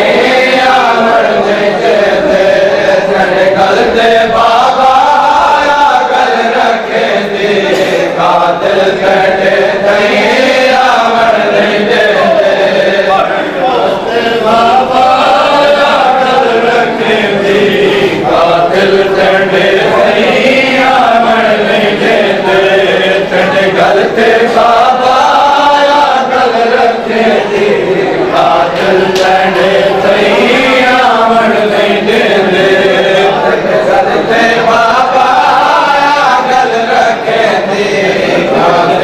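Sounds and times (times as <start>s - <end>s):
men chanting a lament: 0.0s - 39.0s.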